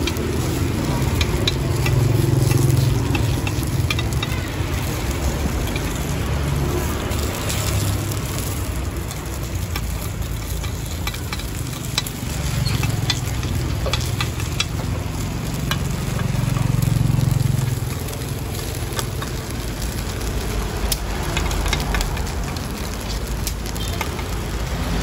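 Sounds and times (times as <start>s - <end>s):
batter sizzling: 0.0s - 25.0s.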